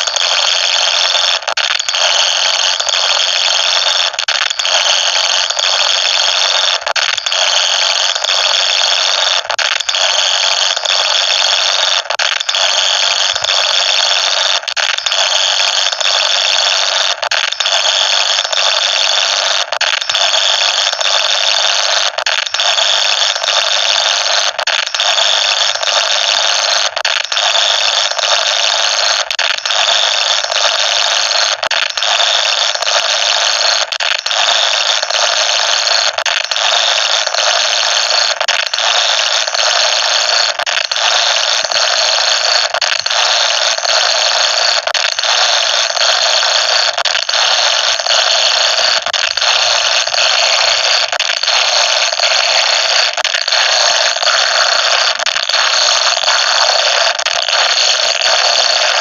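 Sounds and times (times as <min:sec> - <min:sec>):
high-pitched screeching noise: 0:00.0 - 0:35.4, 0:36.3 - 0:59.0.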